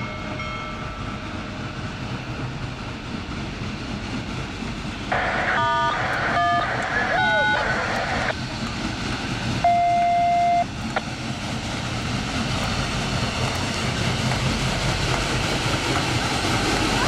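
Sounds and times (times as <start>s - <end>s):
steam locomotive rumbling: 0.0s - 17.0s.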